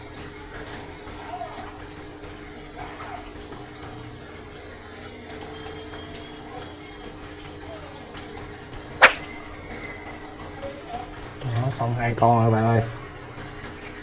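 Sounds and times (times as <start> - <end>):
aquarium water trickling: 0.0 - 14.0.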